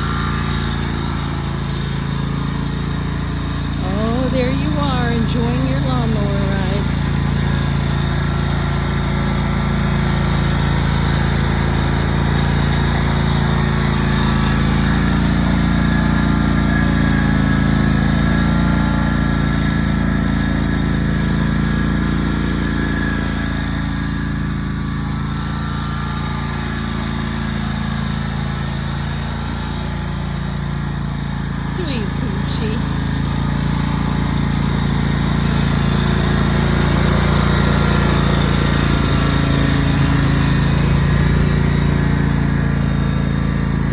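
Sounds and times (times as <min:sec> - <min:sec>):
riding lawn mower engine: 0:00.0 - 0:43.9.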